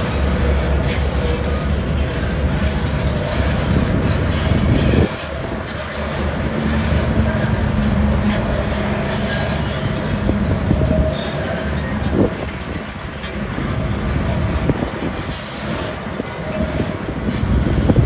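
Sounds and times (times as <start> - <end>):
diesel machinery engine under load: 0.0 - 18.0.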